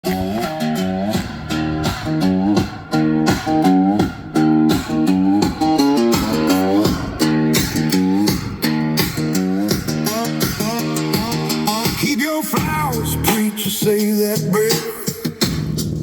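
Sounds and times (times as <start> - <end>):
instrumental guitar music with bass: 0.0 - 13.5.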